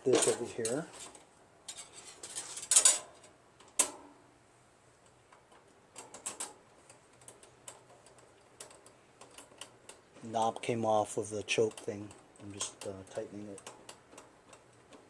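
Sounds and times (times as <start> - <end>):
small metal clicks and rattles: 0.0 - 4.0, 5.0 - 15.0.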